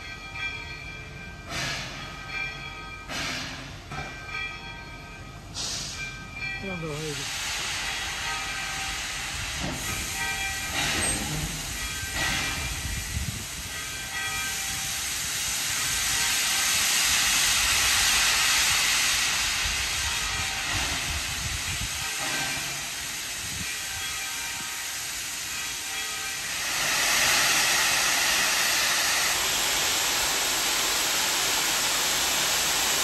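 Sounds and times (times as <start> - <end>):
train coaches rolling on rails: 0.0 - 33.0
steam hissing: 1.4 - 2.4, 3.0 - 4.0, 5.5 - 33.0.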